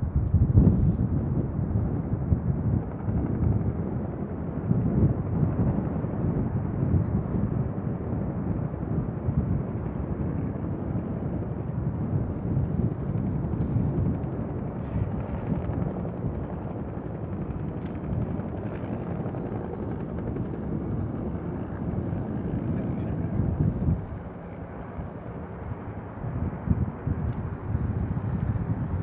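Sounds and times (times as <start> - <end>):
distant turboprop engines rumbling: 0.0 - 29.0
wind buffeting microphone: 0.0 - 29.0.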